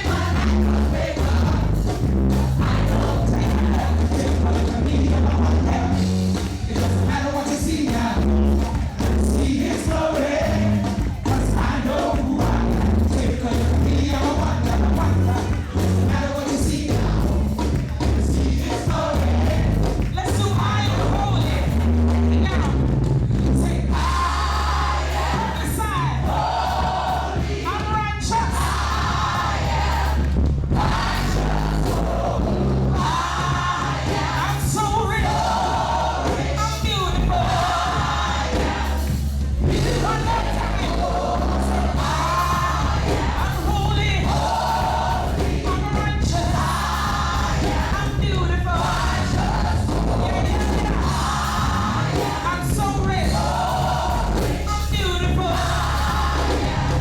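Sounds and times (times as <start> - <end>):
choir singing: 0.0 - 20.1, 23.9 - 57.0
gospel band with heavy bass: 0.0 - 57.0
people singing: 0.0 - 57.0.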